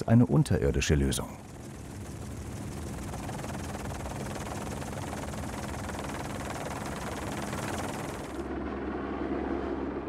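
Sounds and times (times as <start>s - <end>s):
helicopter rotor and engine: 0.0s - 10.0s.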